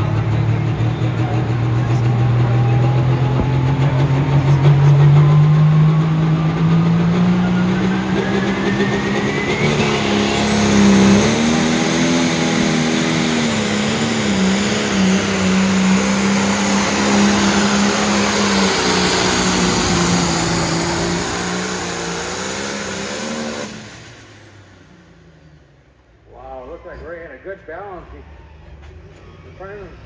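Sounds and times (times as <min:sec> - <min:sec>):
diesel tractor engine at full throttle: 0:00.0 - 0:30.0
high turbo whine: 0:00.0 - 0:30.0.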